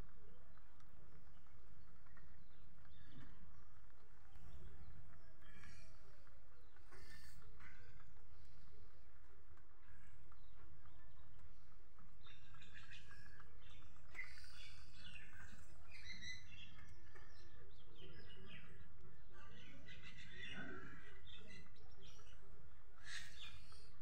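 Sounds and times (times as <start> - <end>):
low background noise: 0.0 - 24.0
small birds chirping: 0.0 - 24.0.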